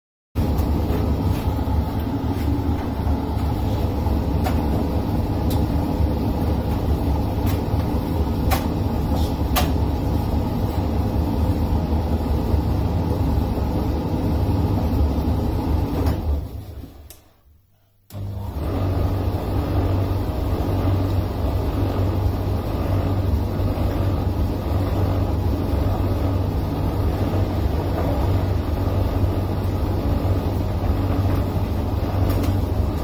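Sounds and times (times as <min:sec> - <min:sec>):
dryer motor winding down: 0:00.4 - 0:16.8, 0:18.1 - 0:33.0
tumble dryer humming: 0:00.4 - 0:17.2, 0:18.1 - 0:33.0.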